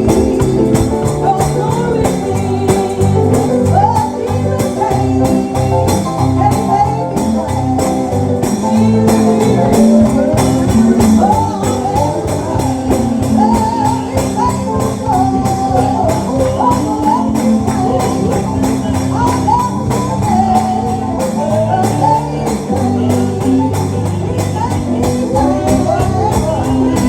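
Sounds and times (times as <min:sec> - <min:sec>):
gospel band playing: 0:00.0 - 0:27.0
sustained bass: 0:00.0 - 0:27.0.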